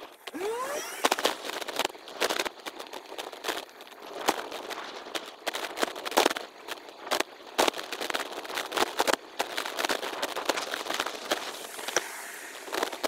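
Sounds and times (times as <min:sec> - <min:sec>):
sped-up bicycle ride crackle: 0:00.0 - 0:13.0.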